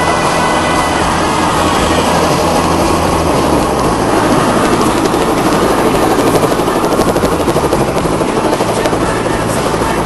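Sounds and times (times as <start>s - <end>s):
helicopter engine and rotor: 0.0s - 10.0s.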